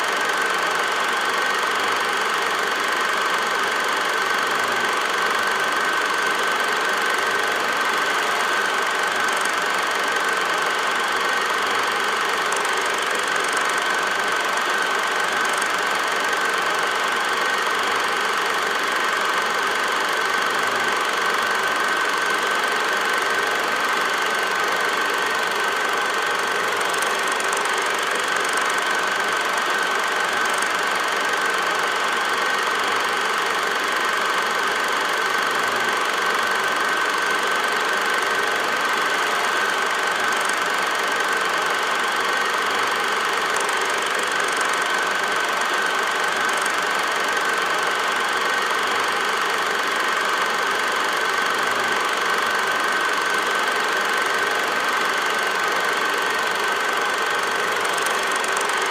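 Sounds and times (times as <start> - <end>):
film projector whirring: 0.0 - 58.9.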